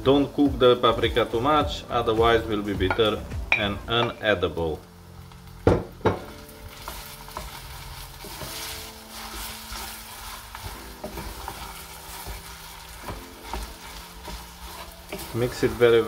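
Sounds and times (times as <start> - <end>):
potato sizzling in oil: 0.0 - 16.0.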